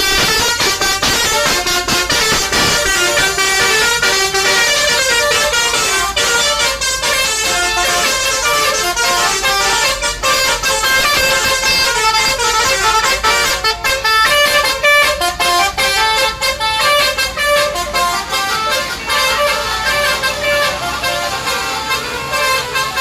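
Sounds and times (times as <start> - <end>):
multi-tone bus horn melody: 0.0 - 23.0.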